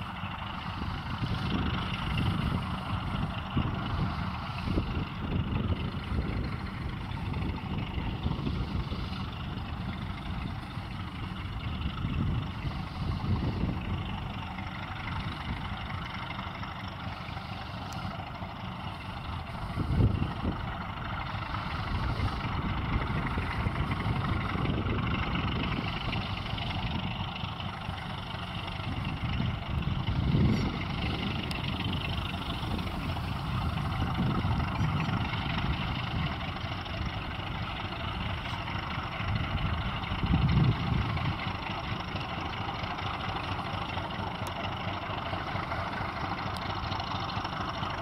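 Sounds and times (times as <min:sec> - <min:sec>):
locomotive diesel engines under load: 0:00.0 - 0:48.0
wagons rumbling: 0:00.0 - 0:48.0.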